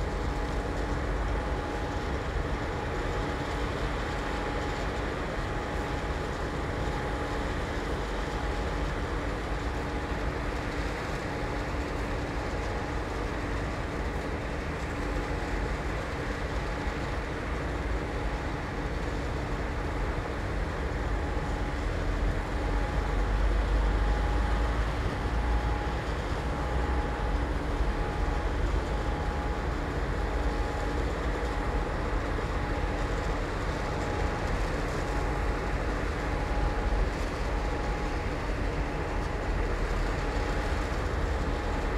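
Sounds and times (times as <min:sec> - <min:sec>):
industrial machinery rumble and hum: 0:00.0 - 0:41.9.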